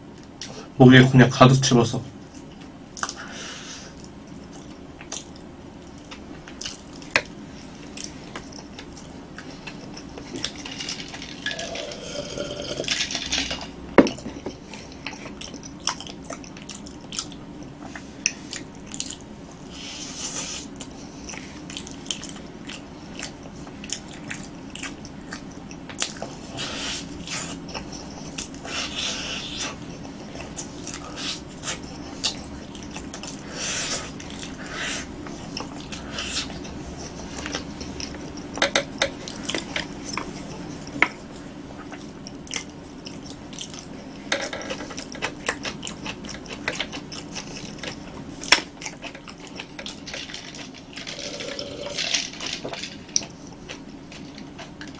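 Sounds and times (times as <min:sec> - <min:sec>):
person chewing with mouth sounds: 0:02.3 - 0:54.9.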